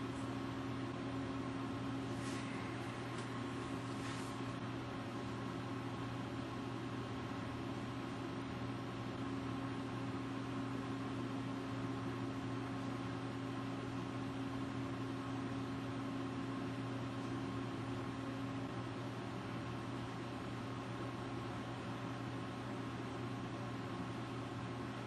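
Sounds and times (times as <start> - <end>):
mechanical hum and hiss: 0.0 - 25.0.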